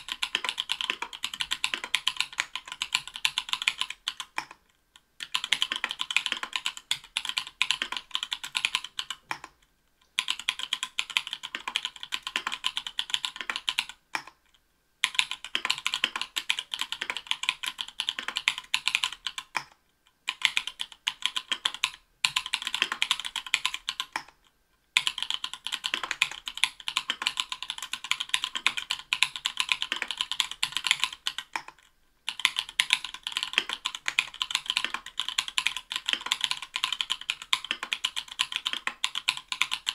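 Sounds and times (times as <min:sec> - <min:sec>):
fast mechanical keyboard typing: 0:00.0 - 0:04.6, 0:05.2 - 0:09.6, 0:10.2 - 0:14.4, 0:15.0 - 0:19.7, 0:20.3 - 0:24.4, 0:25.0 - 0:39.9.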